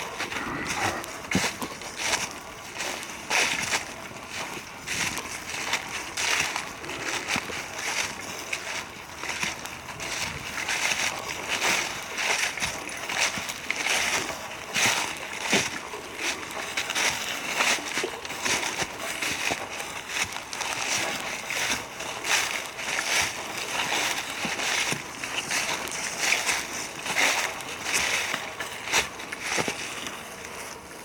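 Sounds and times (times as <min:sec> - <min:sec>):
footsteps through dry leaves: 0:00.0 - 0:31.0.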